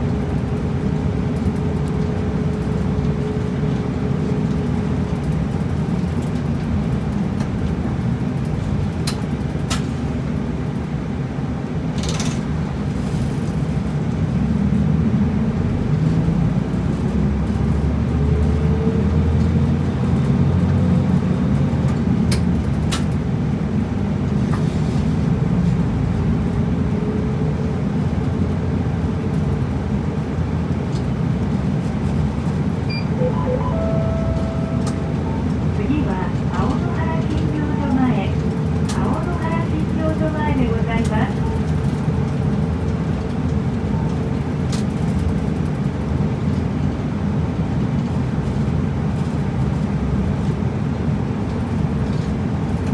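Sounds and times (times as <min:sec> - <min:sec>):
bus engine: 0:00.0 - 0:52.9
road noise: 0:00.1 - 0:52.9.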